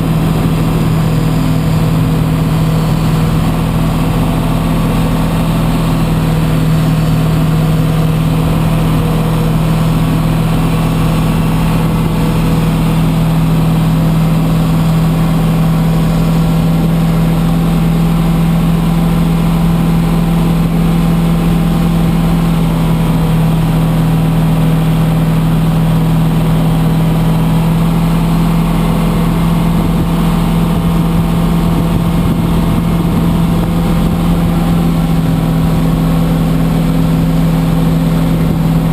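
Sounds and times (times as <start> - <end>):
tug engine droning: 0.0 - 38.9.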